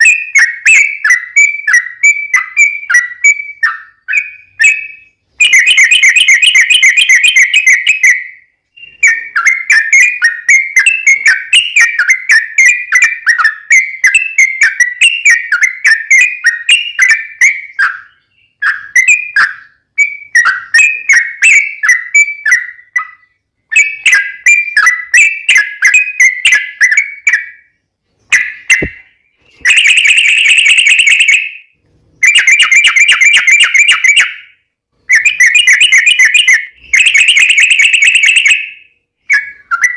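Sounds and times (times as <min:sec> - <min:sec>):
bird song chattering: 0:00.0 - 0:39.9.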